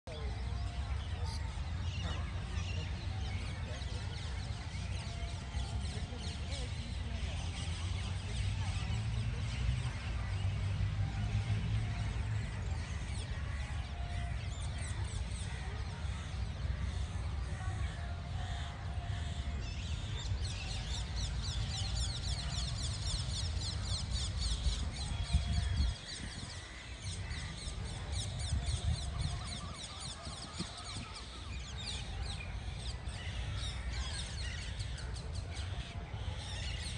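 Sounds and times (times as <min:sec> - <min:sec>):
birds chirping and calling: 0:00.1 - 0:36.9.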